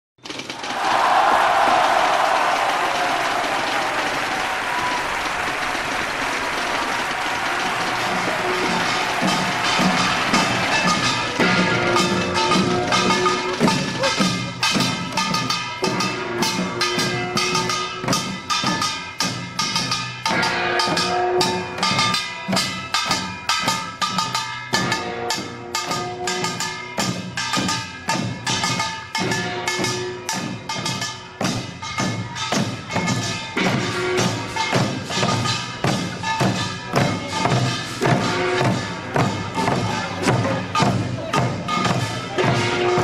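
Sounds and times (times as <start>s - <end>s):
barrel drums beaten rapidly: 5.6s - 43.0s.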